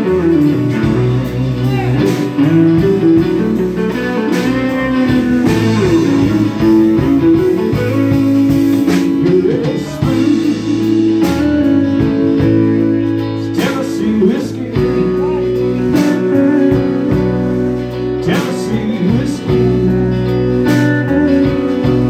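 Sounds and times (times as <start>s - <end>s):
drum kit: 0.0s - 22.0s
electric bass: 0.0s - 22.0s
electric guitars: 0.0s - 22.0s
man singing: 0.0s - 22.0s.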